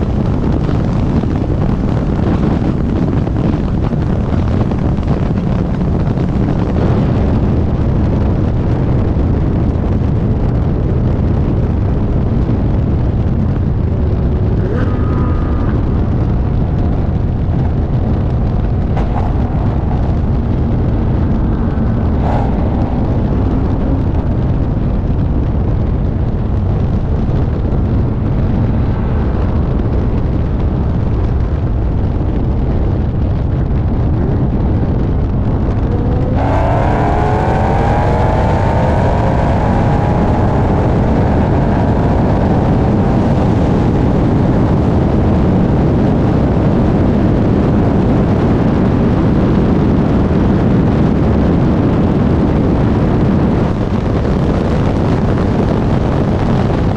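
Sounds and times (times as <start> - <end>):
car engine accelerating with whine: 0.0 - 56.9
wind and road noise: 0.0 - 56.9.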